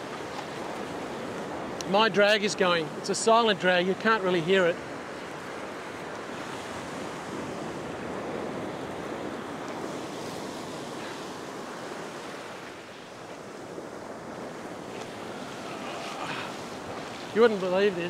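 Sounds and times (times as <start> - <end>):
ocean surf breaking on beach: 0.0 - 18.0.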